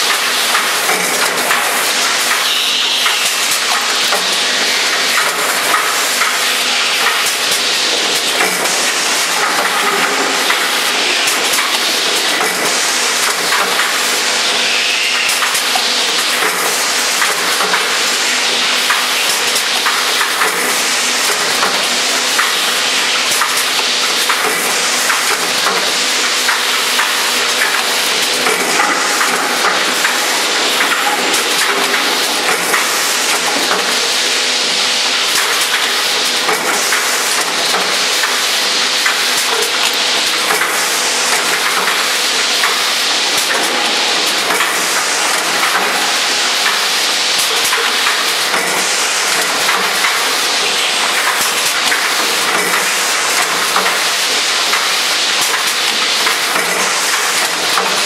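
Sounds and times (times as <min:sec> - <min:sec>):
filling machine hissing: 0:00.0 - 0:58.0.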